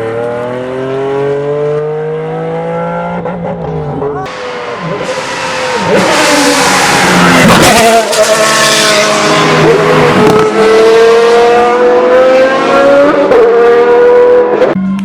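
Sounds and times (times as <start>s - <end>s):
sports car engine accelerating: 0.0s - 15.0s.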